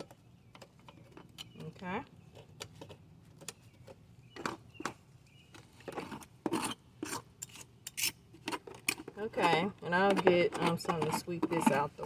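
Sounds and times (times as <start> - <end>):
tool scraping rotten wood: 0.0 - 12.0.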